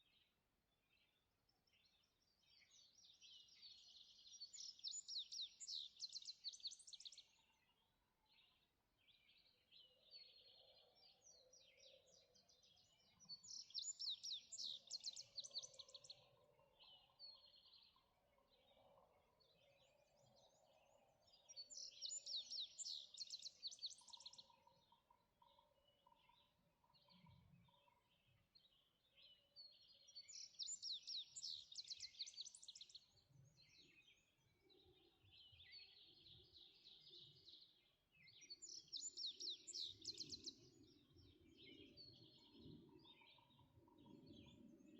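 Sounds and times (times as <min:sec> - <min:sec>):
birds chirping softly: 0:00.0 - 0:44.9
bird trilling song: 0:02.5 - 0:07.5, 0:08.4 - 0:18.0, 0:21.3 - 0:44.9.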